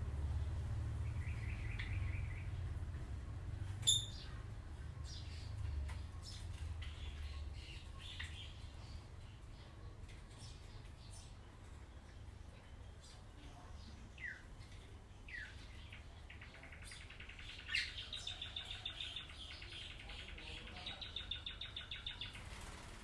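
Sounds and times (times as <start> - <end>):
birds chirping and trilling: 0.2 - 23.0.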